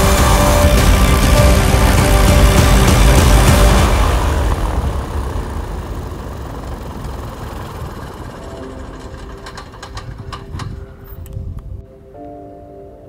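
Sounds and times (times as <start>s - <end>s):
airplane engine idling: 0.0s - 11.4s.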